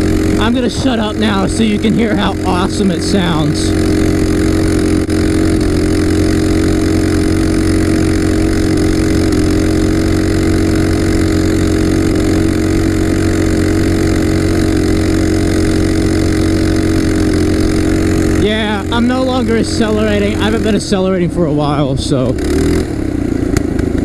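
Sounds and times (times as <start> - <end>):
minibike engine running flat out: 0.0 - 24.0.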